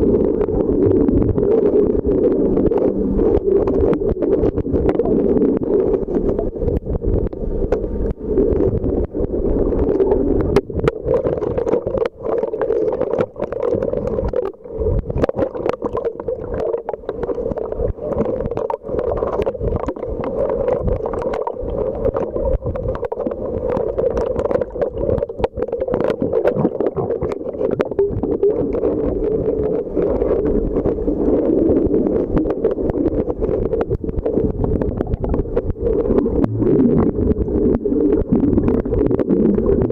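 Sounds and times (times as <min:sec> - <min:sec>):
muffled underwater rush: 0:00.0 - 0:39.9
sharp clicks and crackles: 0:00.0 - 0:39.9.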